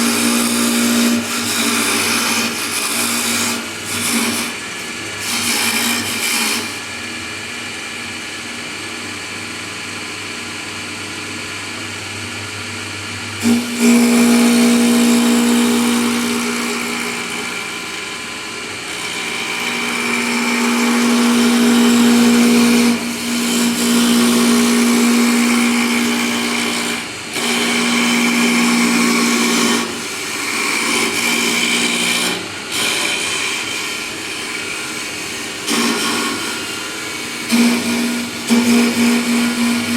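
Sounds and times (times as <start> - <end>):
lathe motor hum: 0.0 - 39.9
lathe whine turning wood: 0.0 - 39.9.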